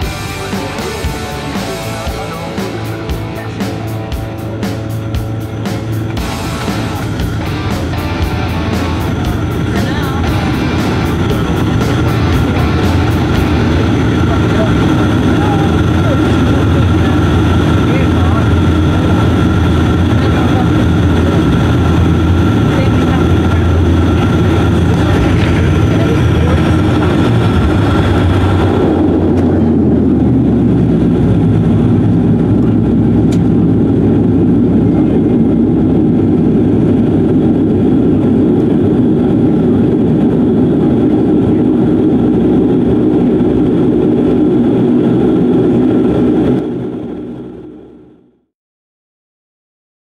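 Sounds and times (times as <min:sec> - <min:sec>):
turboprop engine drone: 0:00.0 - 0:48.5.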